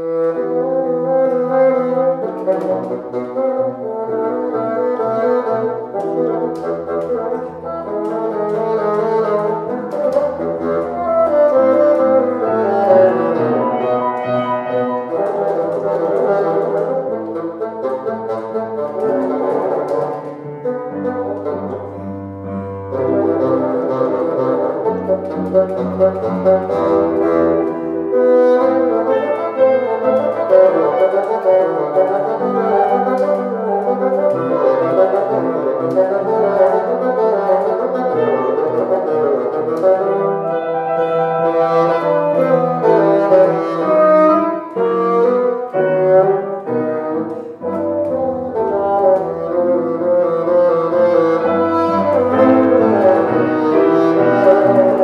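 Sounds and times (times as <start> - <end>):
bassoon melody: 0.0 - 55.0
piano accompaniment: 0.0 - 55.0.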